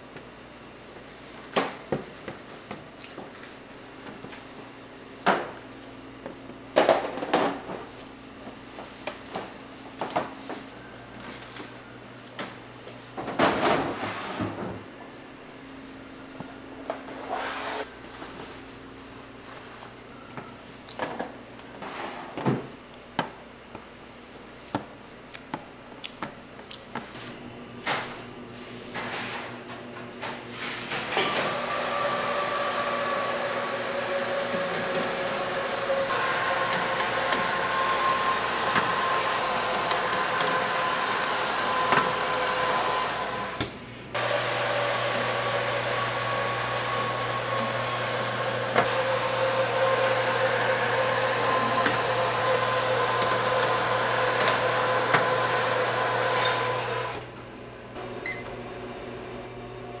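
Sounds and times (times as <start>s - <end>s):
oven fan whirring: 0.0s - 60.0s.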